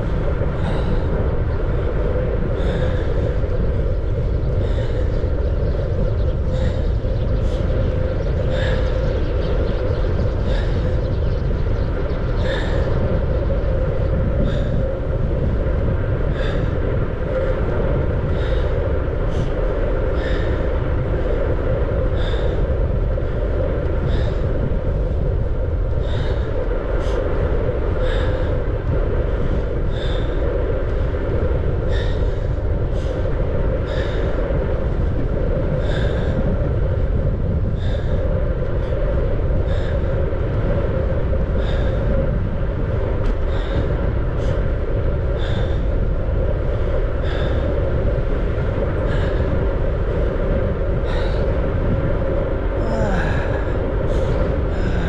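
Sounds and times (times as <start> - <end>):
bicycle road rumble: 0.0 - 55.0
wind noise: 0.0 - 55.0.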